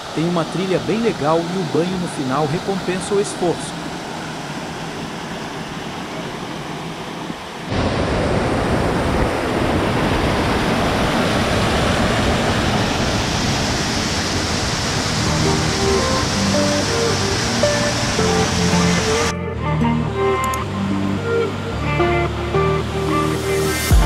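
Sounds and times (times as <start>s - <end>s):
waterfall rushing water: 0.0s - 19.4s.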